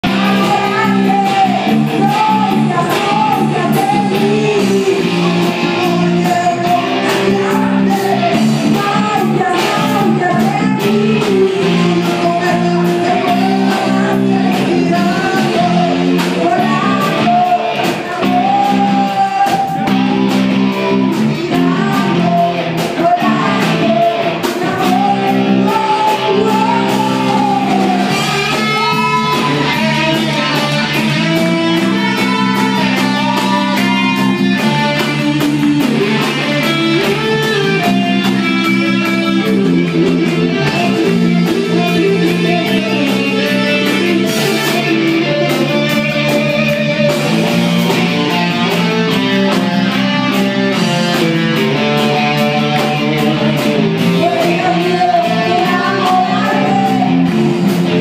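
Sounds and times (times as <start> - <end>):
bass guitar: 0.0 - 58.0
drum kit and cymbals: 0.0 - 58.0
electric guitar: 0.0 - 58.0
person singing: 0.0 - 58.0.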